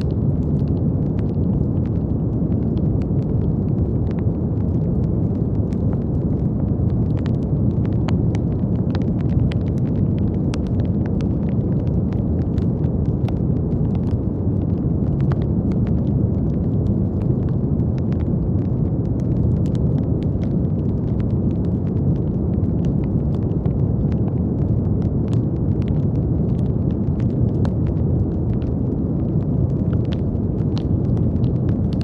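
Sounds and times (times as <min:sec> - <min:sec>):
deep brown noise: 0:00.0 - 0:32.0
faint crackles and clicks: 0:00.0 - 0:32.0.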